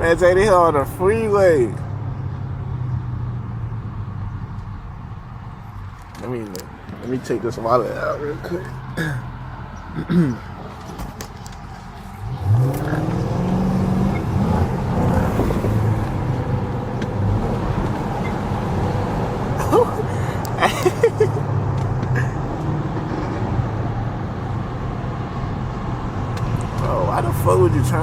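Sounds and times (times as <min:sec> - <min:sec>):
car exhaust drone: 0:01.9 - 0:28.0.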